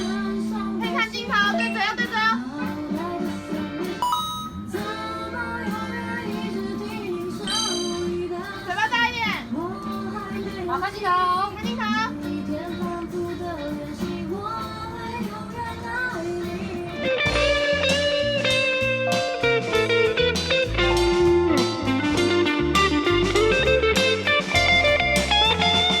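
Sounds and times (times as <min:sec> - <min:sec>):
pop-rock music with electric guitar: 0:00.0 - 0:26.0.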